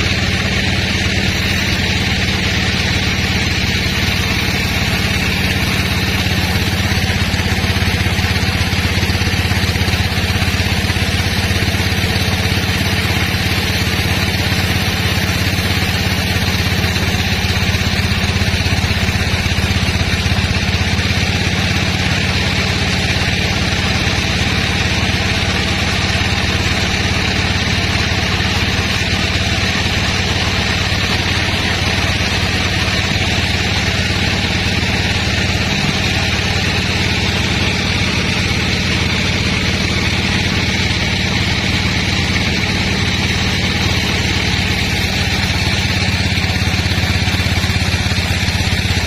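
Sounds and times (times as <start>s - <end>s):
sawmill machinery humming: 0.0s - 49.0s.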